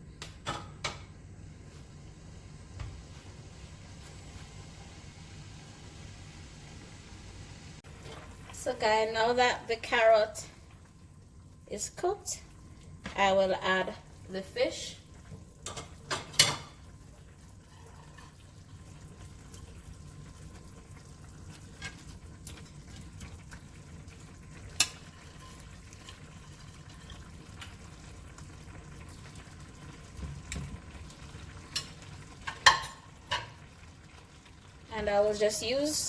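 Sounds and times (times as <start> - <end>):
gravy simmering and bubbling: 0.3 - 35.3.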